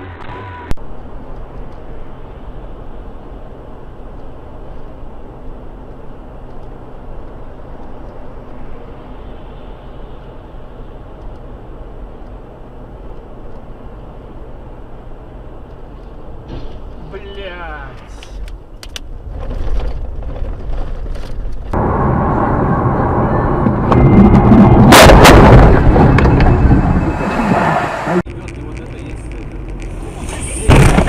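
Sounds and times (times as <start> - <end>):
car driving road noise: 0.0 - 31.0.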